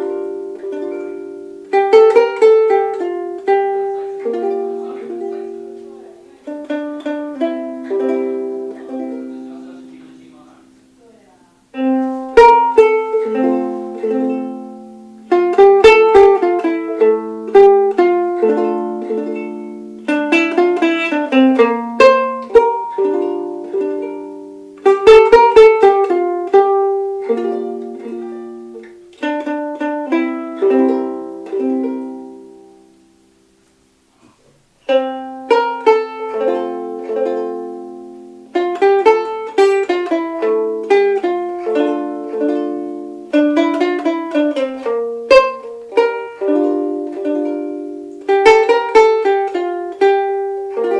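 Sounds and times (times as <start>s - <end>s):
ukulele plucked melody: 0.0s - 11.0s, 11.7s - 50.9s.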